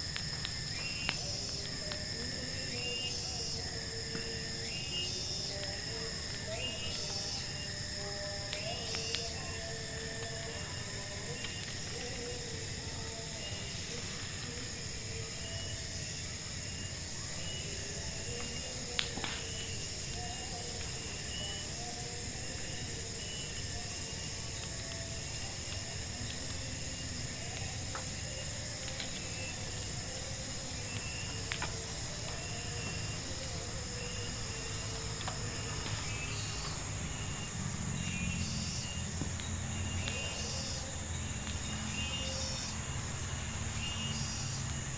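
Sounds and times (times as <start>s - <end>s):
high insect drone: 0.0s - 44.9s.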